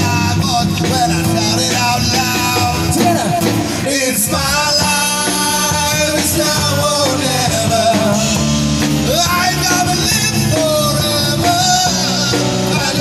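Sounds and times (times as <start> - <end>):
drum kit with cymbals: 0.0 - 13.0
man singing into a microphone: 0.0 - 13.0.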